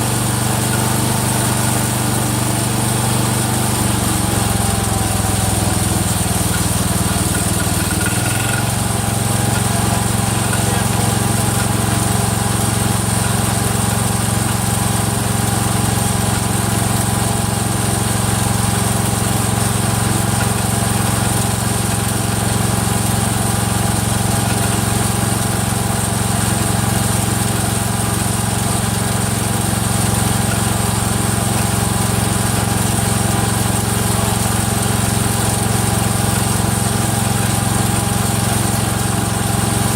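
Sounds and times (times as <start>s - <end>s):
engine clicking: 0.0s - 39.9s
single-cylinder engine running: 0.0s - 39.9s.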